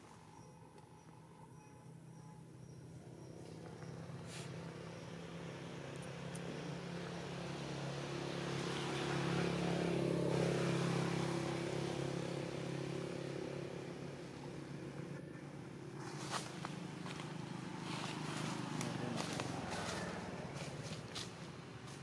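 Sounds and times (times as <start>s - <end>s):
vehicle engine passing by: 3.2s - 22.0s.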